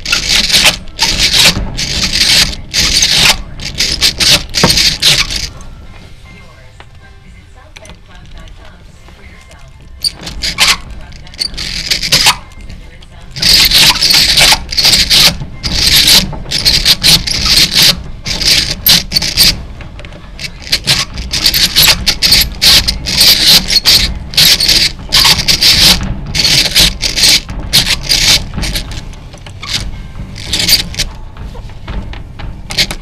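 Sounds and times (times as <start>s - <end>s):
hand drill cranking: 0.0s - 5.6s, 9.4s - 19.6s, 20.4s - 32.1s, 32.7s - 33.0s.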